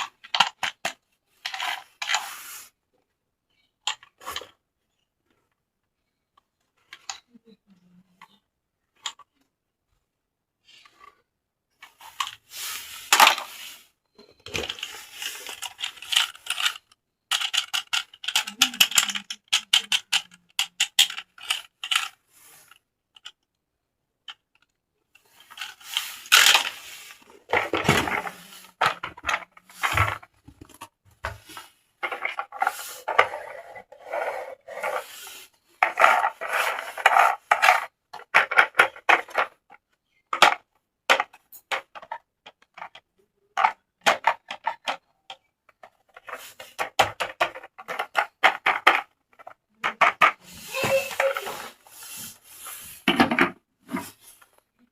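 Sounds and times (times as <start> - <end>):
plastic toy pieces clattering: 0.0 - 2.4, 11.8 - 23.5, 24.2 - 54.5.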